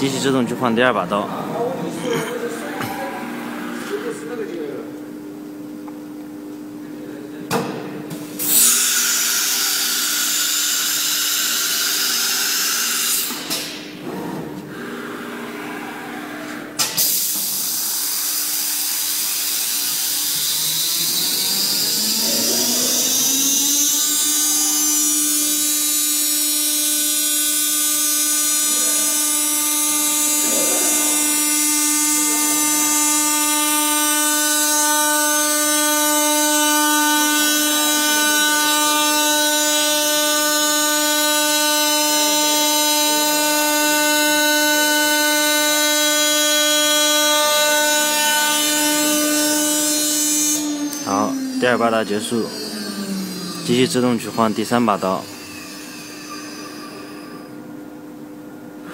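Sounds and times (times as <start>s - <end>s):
router spindle whine: 1.6s - 4.8s, 8.5s - 57.8s.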